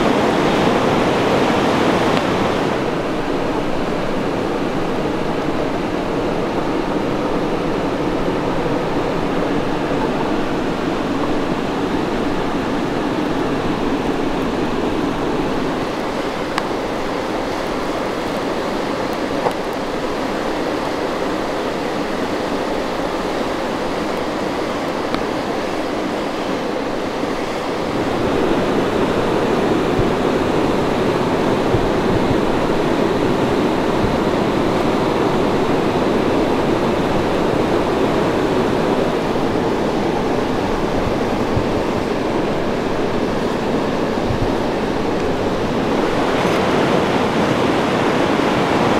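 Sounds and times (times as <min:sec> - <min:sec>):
steady rushing noise: 0:00.0 - 0:48.9.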